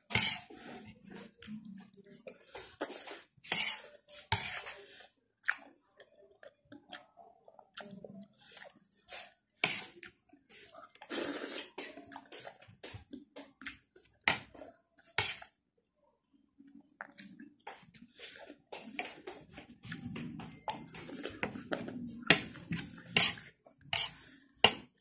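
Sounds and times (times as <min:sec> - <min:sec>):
person chewing rice: 0:00.0 - 0:15.6, 0:16.5 - 0:25.0.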